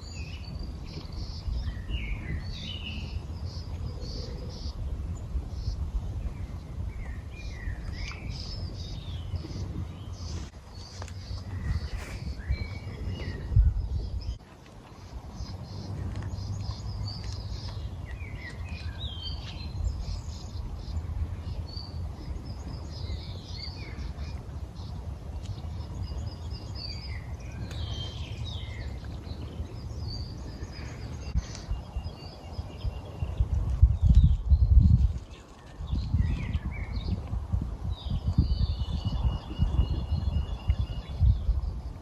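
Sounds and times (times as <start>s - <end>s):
small birds chirping: 0.0s - 42.0s
steady low rumble: 0.0s - 42.0s.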